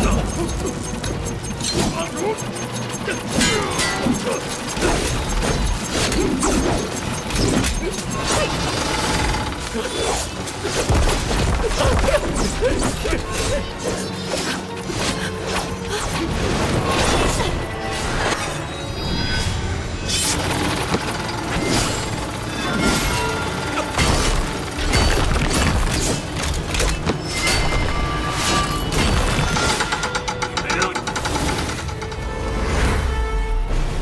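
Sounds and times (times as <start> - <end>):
dramatic music: 0.0 - 34.0.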